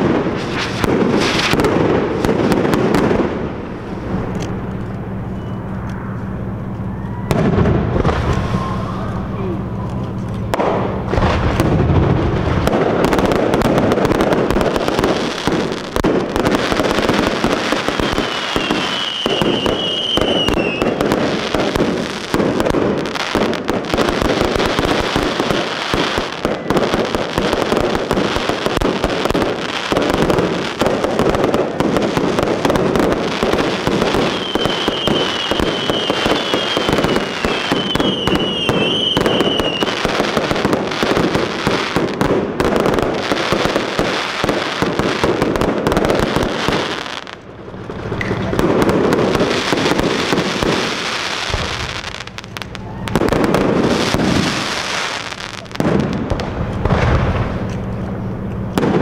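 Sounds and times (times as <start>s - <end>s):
fireworks crackling and banging: 0.0s - 59.0s
fireworks whistling: 0.0s - 59.0s.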